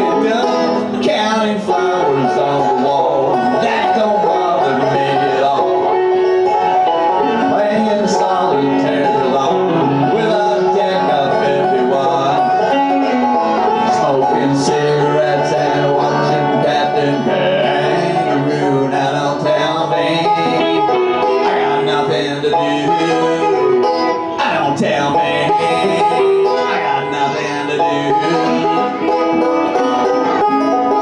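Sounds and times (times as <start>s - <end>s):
banjo picking: 0.0s - 31.0s
electric guitar: 0.0s - 31.0s.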